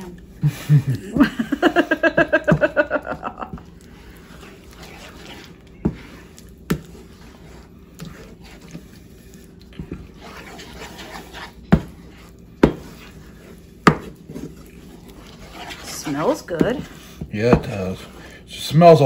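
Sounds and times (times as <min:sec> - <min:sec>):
wooden spoon scraping a pan: 0:01.5 - 0:19.0.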